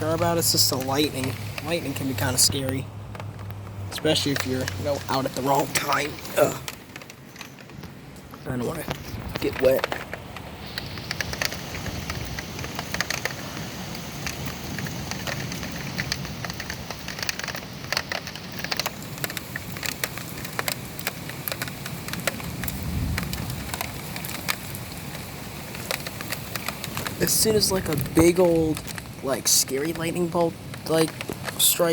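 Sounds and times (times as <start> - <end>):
heavy rain falling: 0.0 - 31.9.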